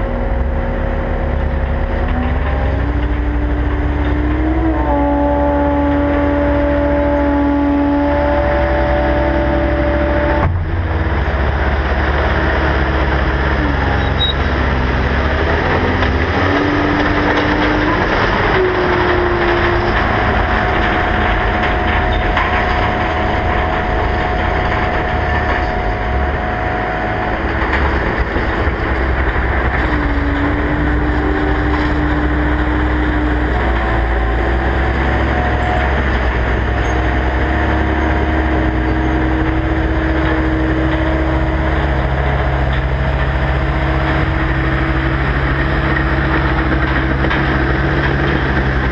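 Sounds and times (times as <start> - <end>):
diesel engine low rumble: 0.0 - 48.9
hydraulic whining tones: 0.0 - 48.9.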